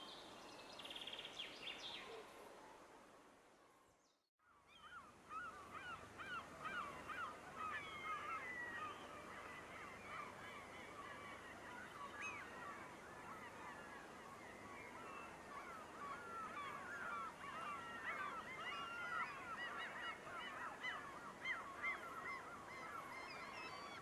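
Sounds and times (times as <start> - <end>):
steady background hiss: 4.6 - 24.0.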